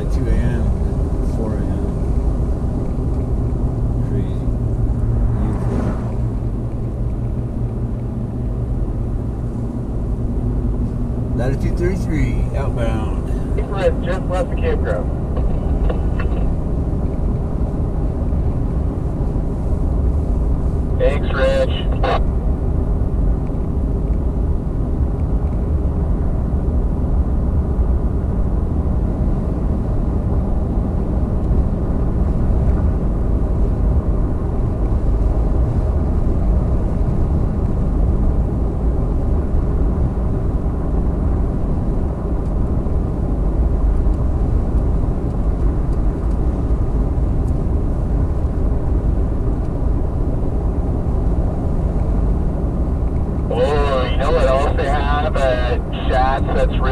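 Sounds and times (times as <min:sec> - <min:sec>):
vehicle engine and road rumble: 0:00.0 - 0:56.9.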